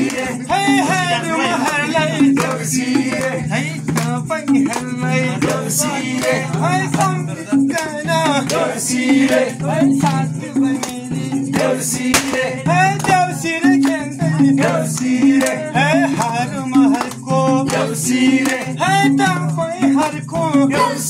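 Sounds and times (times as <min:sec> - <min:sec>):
person singing: 0:00.0 - 0:21.0
steady drum rhythm: 0:00.0 - 0:21.0.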